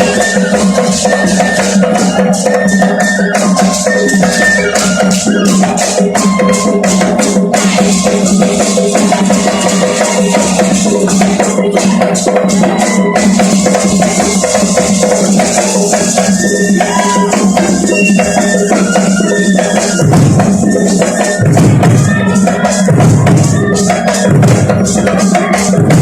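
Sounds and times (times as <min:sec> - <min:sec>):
big drums playing rhythm: 0:00.0 - 0:26.0
rattling percussion: 0:00.0 - 0:26.0.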